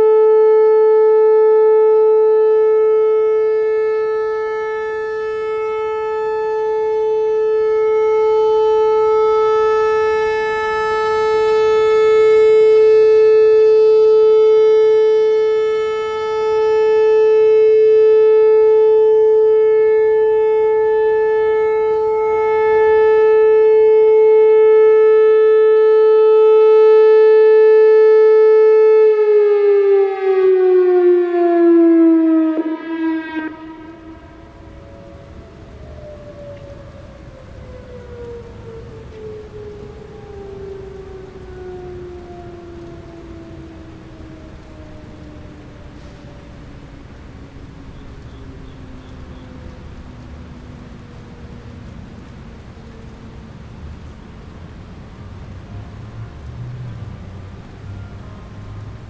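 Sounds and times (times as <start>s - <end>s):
warning siren steady alert tone: 0.0s - 59.0s.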